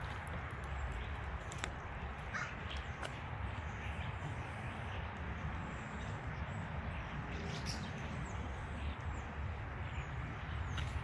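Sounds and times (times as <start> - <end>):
low outdoor rumble: 0.0 - 11.0
flock of birds calling: 0.6 - 11.0.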